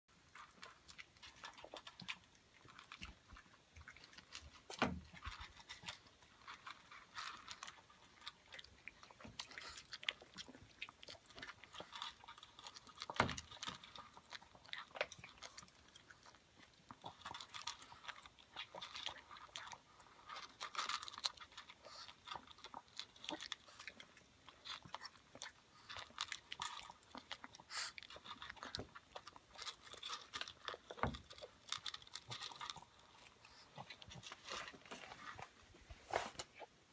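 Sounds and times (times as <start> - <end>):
dogs crunching food: 0.1 - 36.6.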